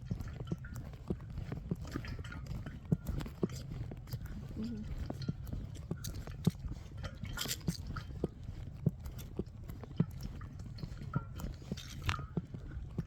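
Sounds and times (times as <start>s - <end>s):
footsteps crunching on a trail: 0.0s - 13.0s.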